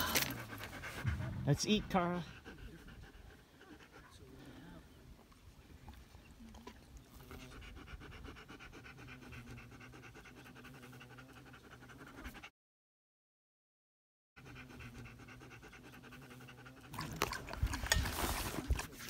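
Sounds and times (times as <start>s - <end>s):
dog panting: 0.0s - 4.9s, 5.9s - 12.5s, 14.4s - 19.0s.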